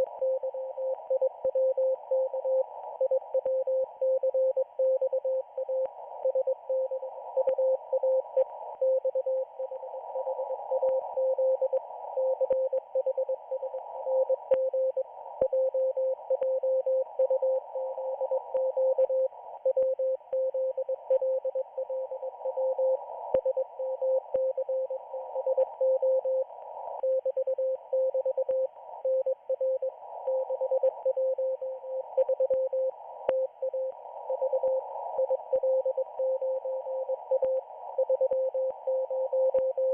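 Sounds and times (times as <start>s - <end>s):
faint static clicks: 0.0s - 39.9s.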